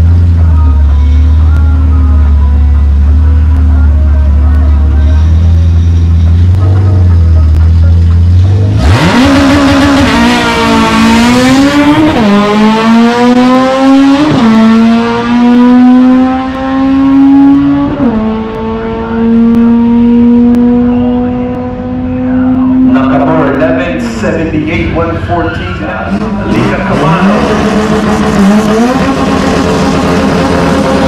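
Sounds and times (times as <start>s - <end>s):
car engine revving hard: 5.1s - 31.0s.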